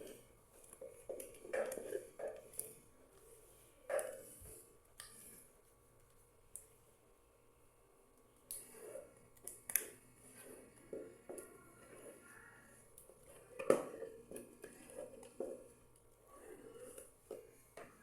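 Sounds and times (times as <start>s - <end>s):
dough stirred and scraped in bowl: 0.0s - 5.9s, 8.5s - 18.0s.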